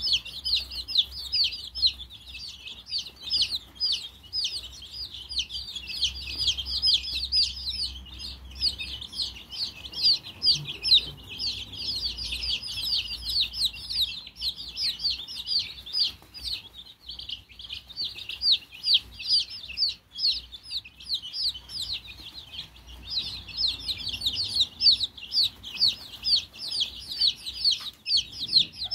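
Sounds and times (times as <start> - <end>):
chicks peeping: 0.0 - 28.9.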